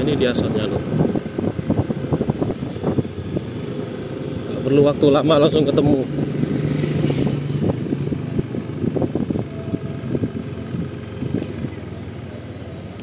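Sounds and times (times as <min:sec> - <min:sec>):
wind buffeting microphone: 0:00.0 - 0:12.2
motorcycle engine running: 0:00.0 - 0:13.0.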